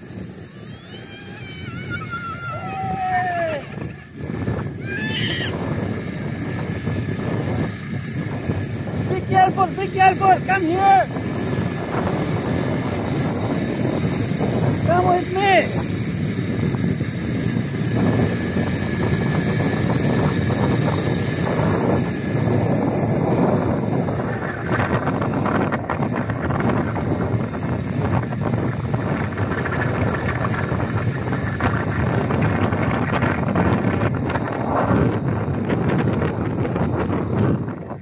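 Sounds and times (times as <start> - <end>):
quad bike engine running: 0.0 - 38.0
wind buffeting microphone: 0.0 - 38.0.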